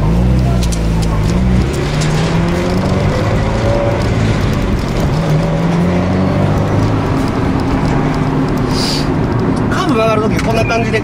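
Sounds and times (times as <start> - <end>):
car engine from inside cabin: 0.0 - 11.0
road noise: 0.0 - 11.0.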